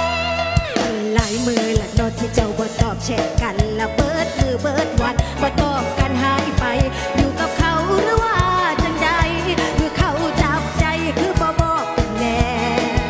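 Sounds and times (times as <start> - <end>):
live folk-pop band: 0.0 - 13.0.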